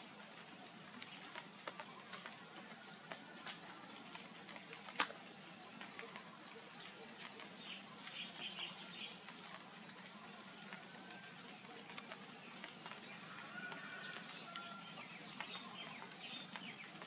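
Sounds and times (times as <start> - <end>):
insects humming: 0.0 - 17.0.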